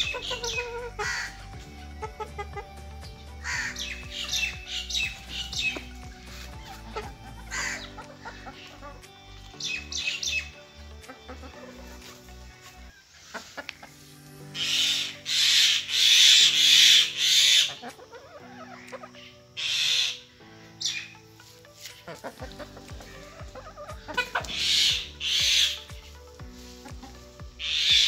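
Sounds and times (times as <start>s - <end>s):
chicken squawks: 0.0s - 2.7s, 3.4s - 14.0s, 14.6s - 21.2s, 22.0s - 26.0s, 26.8s - 28.0s
background music: 0.0s - 28.0s
chickens calling: 0.0s - 28.0s.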